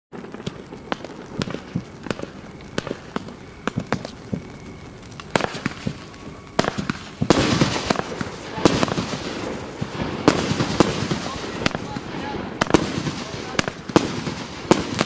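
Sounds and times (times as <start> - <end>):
fireworks banging and crackling: 0.1 - 15.0.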